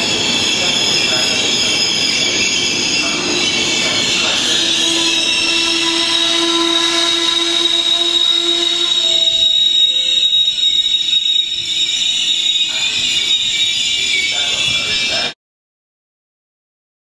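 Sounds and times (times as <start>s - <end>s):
train brakes squealing: 0.0s - 15.4s.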